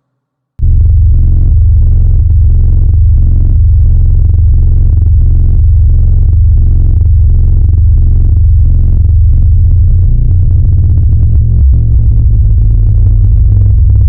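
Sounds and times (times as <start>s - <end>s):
heavy sustained bass line: 0.6s - 14.0s.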